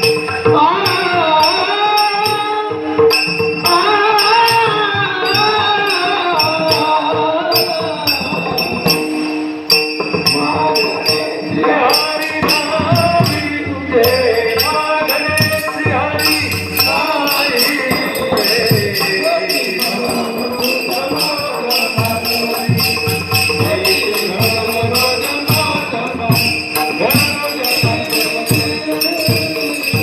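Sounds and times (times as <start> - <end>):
hand cymbals struck rhythmically: 0.0 - 30.0
held accompanying tones: 0.0 - 30.0
devotional singing: 3.7 - 9.0, 10.3 - 30.0.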